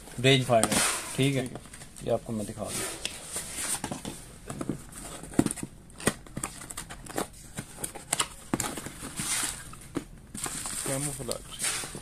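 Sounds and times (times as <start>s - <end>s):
paper and bubble wrap rustling: 0.2s - 12.0s.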